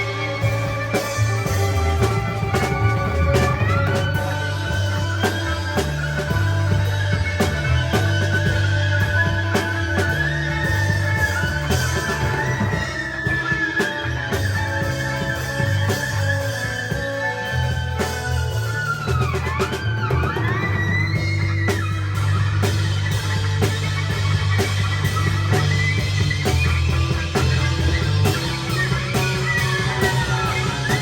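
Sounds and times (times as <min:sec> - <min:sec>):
gliding lead guitar line: 0:00.0 - 0:31.0
rock band playing: 0:00.0 - 0:31.0.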